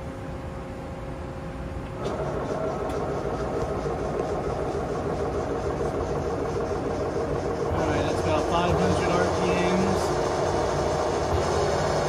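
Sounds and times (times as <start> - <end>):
machine hum: 0.0 - 12.0
lathe spindle running: 2.0 - 12.0.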